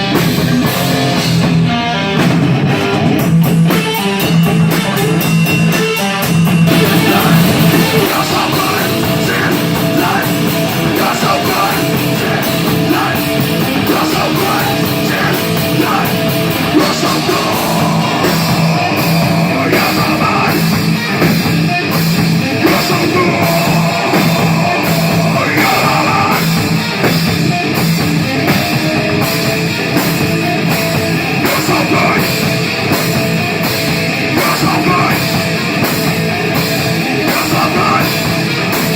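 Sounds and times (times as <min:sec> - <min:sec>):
heavy rock band playing: 0:00.0 - 0:38.9.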